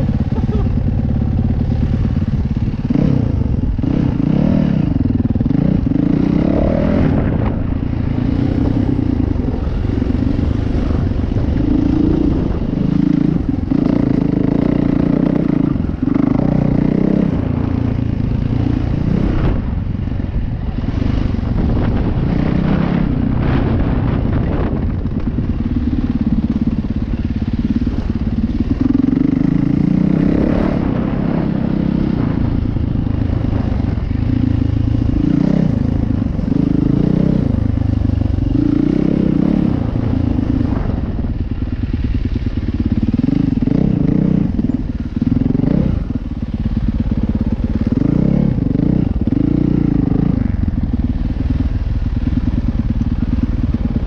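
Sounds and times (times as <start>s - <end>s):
dirt bike engine revving: 0.0s - 41.2s, 41.9s - 54.0s.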